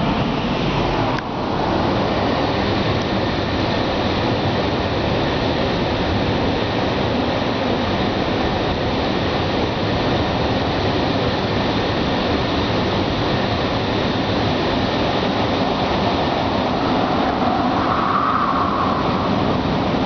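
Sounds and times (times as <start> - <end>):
car wash machinery rushing: 0.0 - 20.0.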